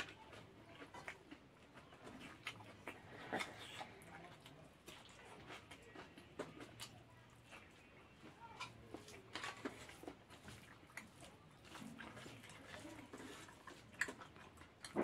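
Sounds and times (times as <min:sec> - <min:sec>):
man chewing and lip smacking: 0:00.0 - 0:15.0.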